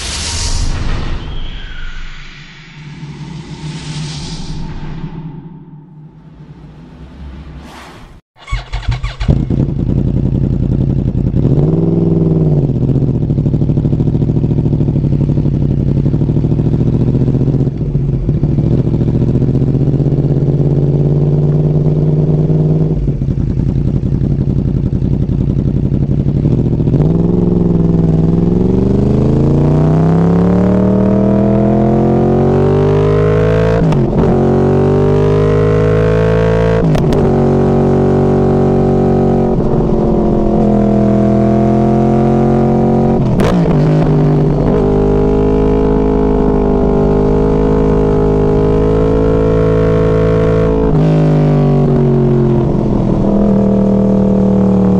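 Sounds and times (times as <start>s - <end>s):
motorcycle engine revving: 8.3s - 54.9s.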